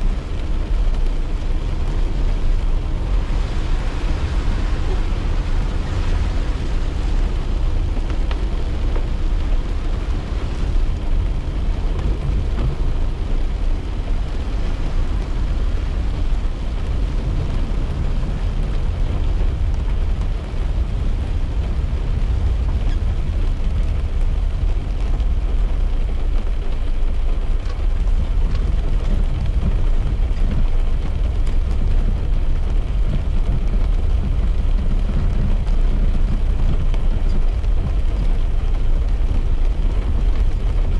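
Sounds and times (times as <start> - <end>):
car driving on wet road: 0.0 - 40.9
rain on car: 0.0 - 40.9.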